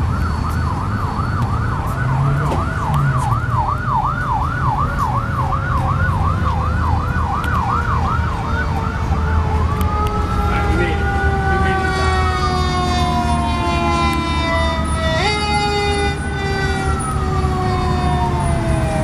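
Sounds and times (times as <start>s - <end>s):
fire engine siren: 0.0s - 19.0s
rumble of engines and traffic: 0.0s - 19.0s.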